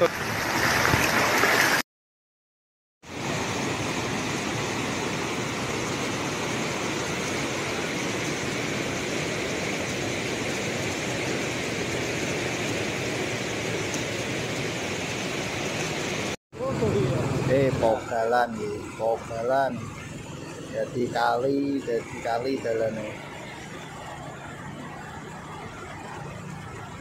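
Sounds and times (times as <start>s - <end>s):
floodwater rushing: 0.0s - 1.8s, 3.1s - 27.0s.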